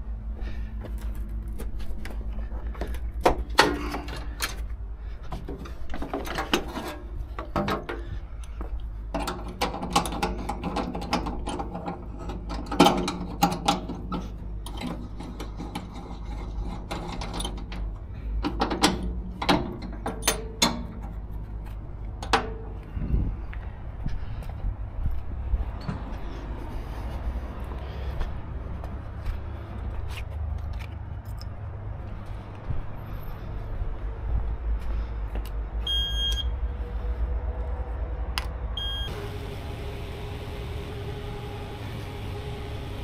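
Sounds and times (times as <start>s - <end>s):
engine humming: 0.0s - 43.0s.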